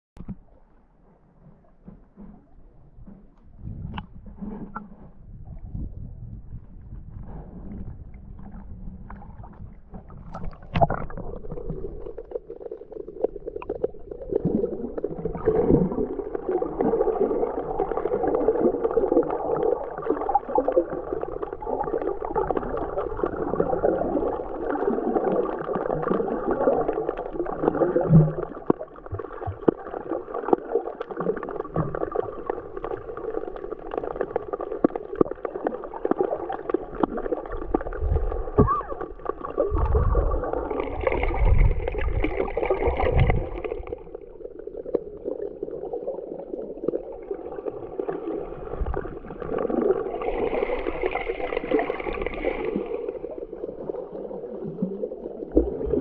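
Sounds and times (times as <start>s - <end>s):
muffled underwater rushing and gurgling: 0.2s - 56.0s.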